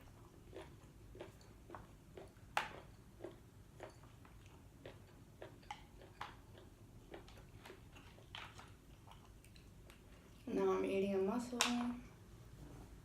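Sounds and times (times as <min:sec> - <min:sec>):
chewing and mouth smacks: 0:00.0 - 0:10.5.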